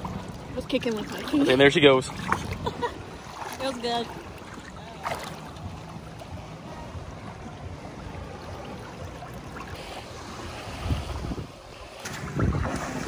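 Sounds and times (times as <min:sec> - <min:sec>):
water lapping around swimmer: 0:00.0 - 0:13.0.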